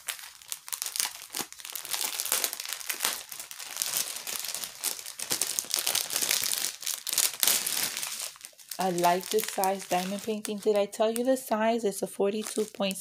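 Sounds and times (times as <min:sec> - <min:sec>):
plastic film crinkling: 0:00.0 - 0:13.0.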